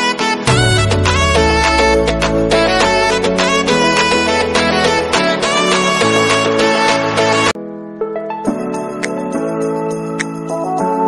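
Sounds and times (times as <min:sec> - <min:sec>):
light instrumental music: 0:00.0 - 0:11.0.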